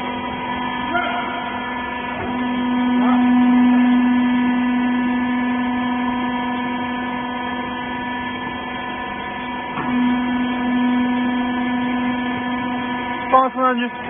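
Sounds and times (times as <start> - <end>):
hydraulic baler motor humming: 0.0 - 14.0.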